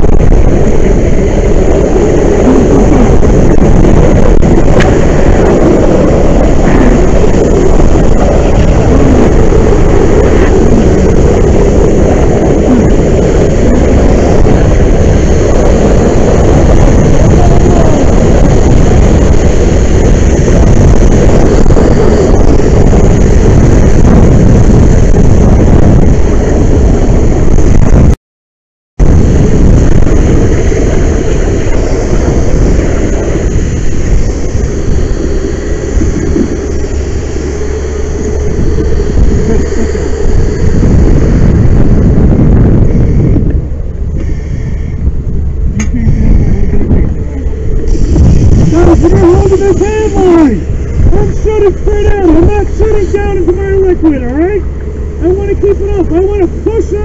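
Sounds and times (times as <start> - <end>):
fire hose spray and fire rushing: 0.0 - 28.1, 29.0 - 57.0.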